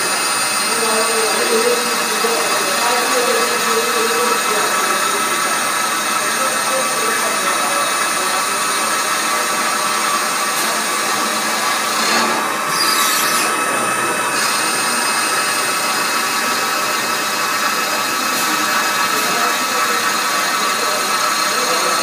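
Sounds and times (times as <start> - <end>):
lathe machine whine: 0.0 - 22.0.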